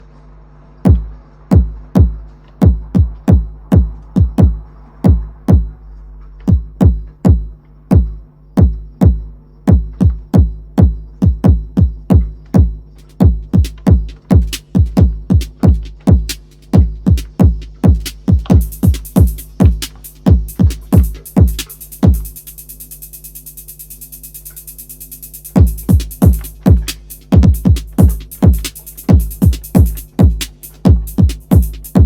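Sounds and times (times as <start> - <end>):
booming electronic kick drum: 0.9 - 24.2, 24.9 - 32.0.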